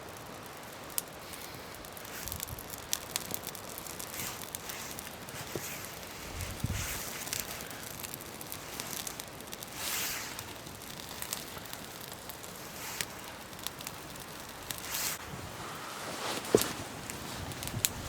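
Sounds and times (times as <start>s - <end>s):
campfire crackling: 0.0s - 18.0s
rustling: 1.2s - 18.0s.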